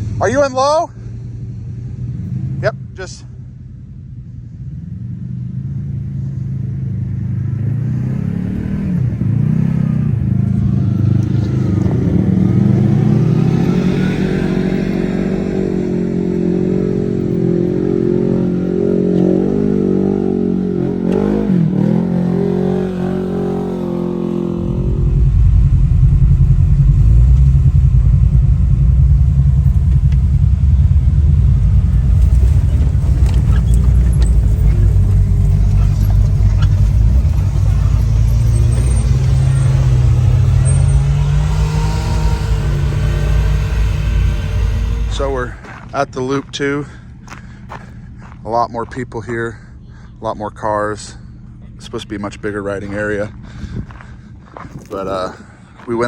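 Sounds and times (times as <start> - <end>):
off-road vehicle engine revving: 4.6 - 56.0.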